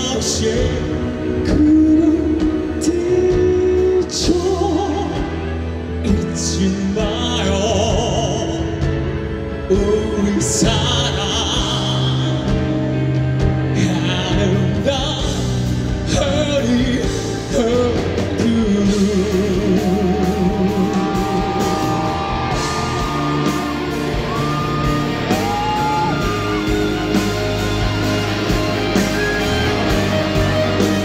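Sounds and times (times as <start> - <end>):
live rock band: 0.0 - 31.0
person singing: 0.0 - 31.0.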